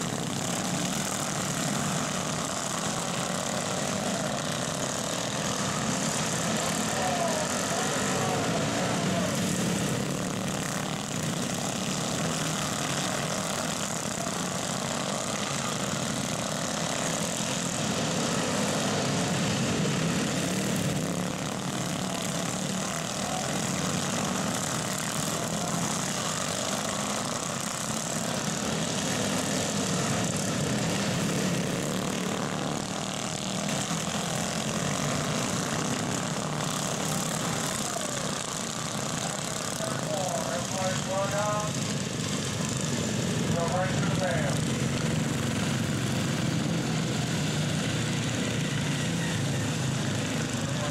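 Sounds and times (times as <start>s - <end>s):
small engines droning: 0.0s - 50.9s.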